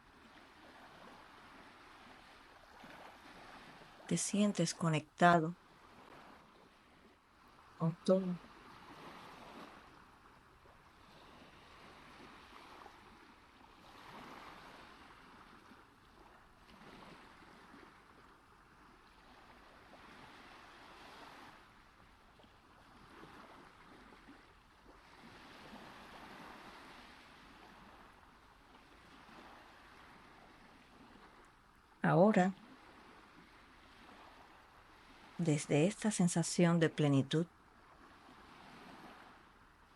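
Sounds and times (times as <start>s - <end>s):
faint sea waves washing in: 0.0s - 39.9s.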